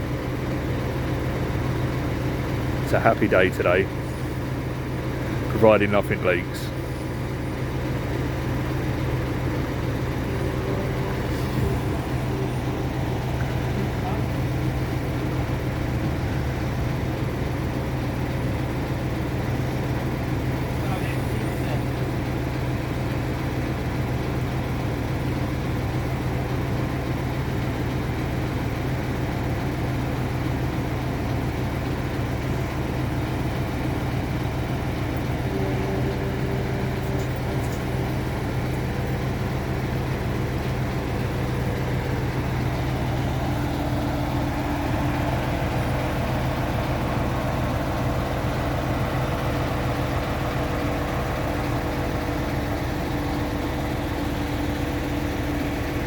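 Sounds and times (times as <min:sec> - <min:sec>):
crane engine humming: 0:00.0 - 0:56.0.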